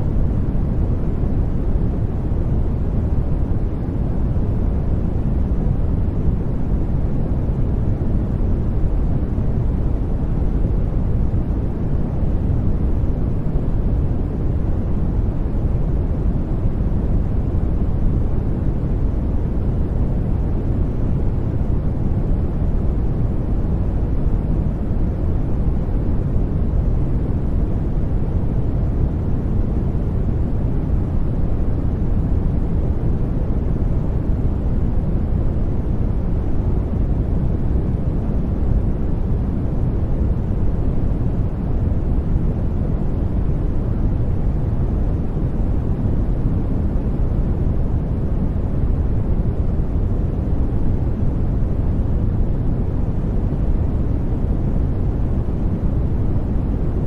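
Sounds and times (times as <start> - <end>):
deep white noise rush: 0.0 - 57.0.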